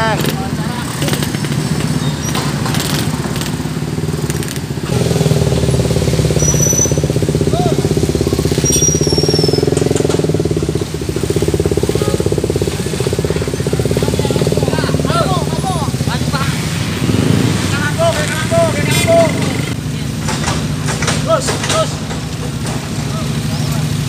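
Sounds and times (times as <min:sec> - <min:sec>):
nearby engine pulsing: 0:00.0 - 0:24.0
scooter engines running: 0:00.0 - 0:24.0.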